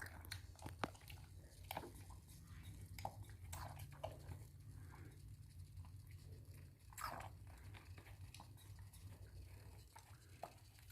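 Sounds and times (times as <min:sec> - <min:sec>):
faint low hum: 0:00.0 - 0:10.9.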